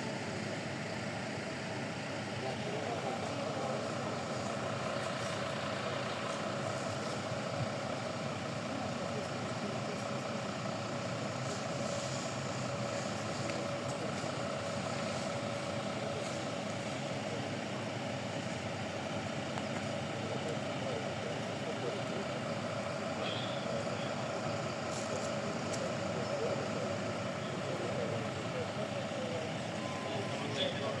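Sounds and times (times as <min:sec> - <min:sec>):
street traffic noise: 0:00.0 - 0:31.0.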